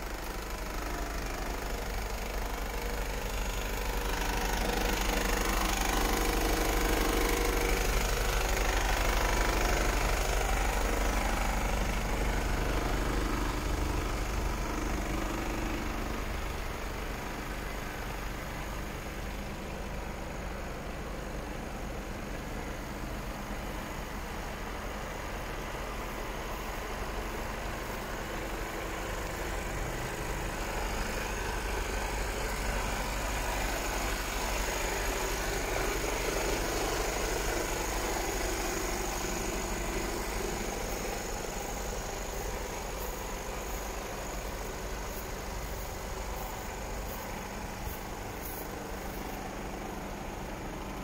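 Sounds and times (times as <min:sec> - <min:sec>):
diesel truck idling: 0:00.0 - 0:51.0.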